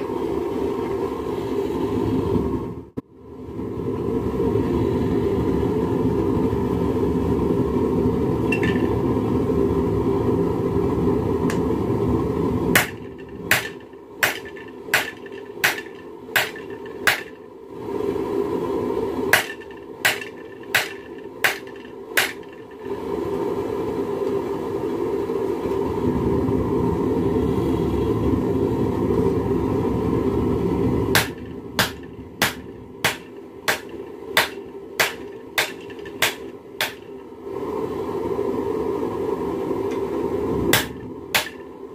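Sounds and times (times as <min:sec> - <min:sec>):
loud steady roar: 0:00.0 - 0:41.9.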